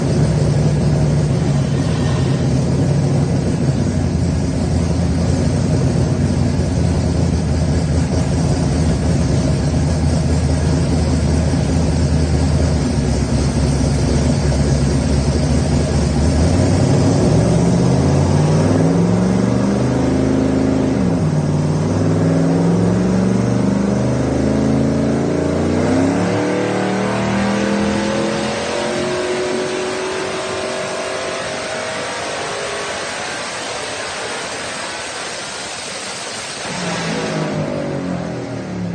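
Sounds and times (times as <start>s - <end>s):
car engine revving on dynamometer: 0.0s - 38.9s.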